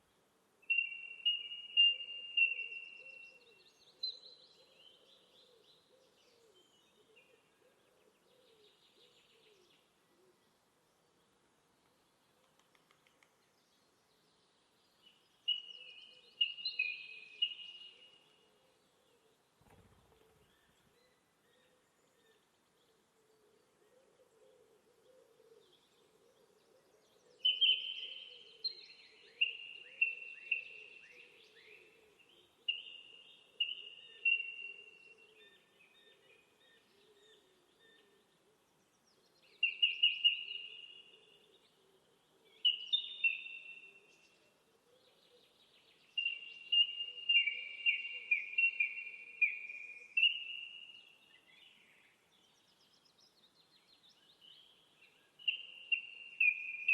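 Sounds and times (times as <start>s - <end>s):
faint steady background noise: 0.0s - 56.9s.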